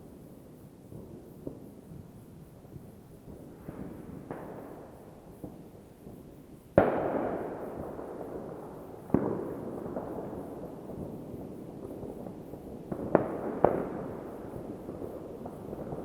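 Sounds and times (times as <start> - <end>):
fireworks bangs with echoing rumble: 0.0 - 16.0
fireworks popping: 0.0 - 16.0.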